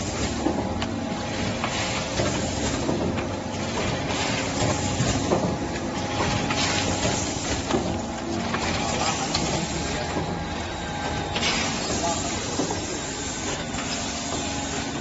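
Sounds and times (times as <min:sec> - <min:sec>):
packaging machine clatter and hum: 0:00.0 - 0:15.0.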